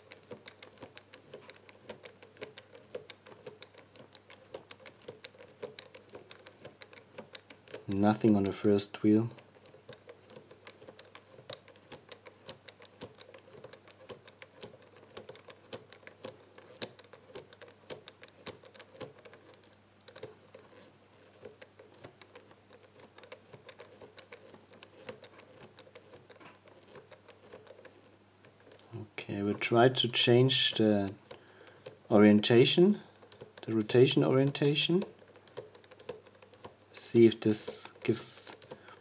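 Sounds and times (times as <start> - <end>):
combination lock wheels clicking: 0.0 - 39.0.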